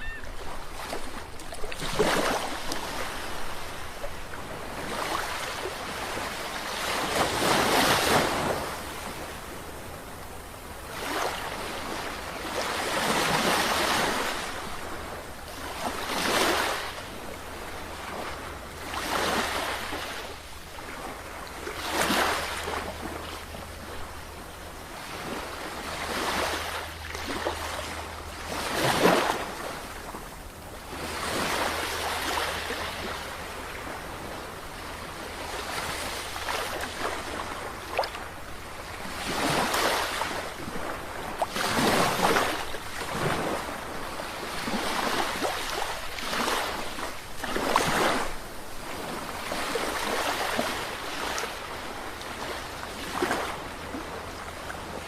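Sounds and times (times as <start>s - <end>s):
sea waves breaking: 0.0s - 9.7s, 10.8s - 55.0s.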